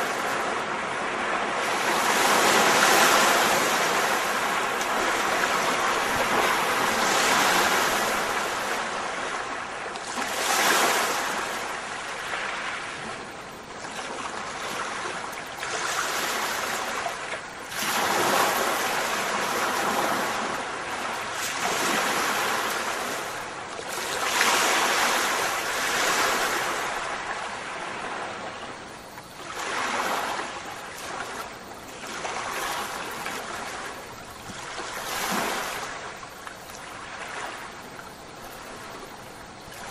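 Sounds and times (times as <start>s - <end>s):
surf-like rushing noise: 0.0s - 39.9s.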